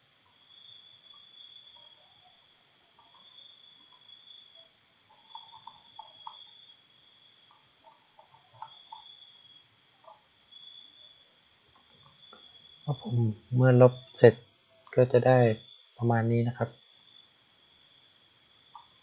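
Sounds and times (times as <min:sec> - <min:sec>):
insect trill: 0:00.0 - 0:19.0
sharp insect chirps: 0:00.3 - 0:19.0.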